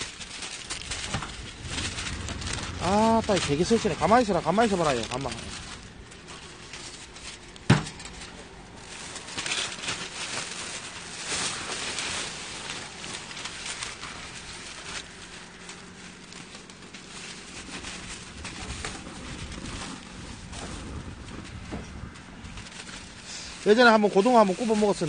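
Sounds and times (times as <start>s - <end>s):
aluminium foil crinkling: 0.0s - 25.0s.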